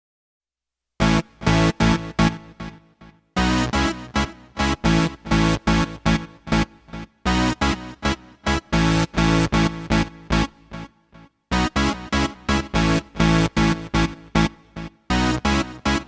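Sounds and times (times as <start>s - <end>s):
synthesizer chord stabs: 1.0s - 2.8s, 3.4s - 10.8s, 11.5s - 16.0s.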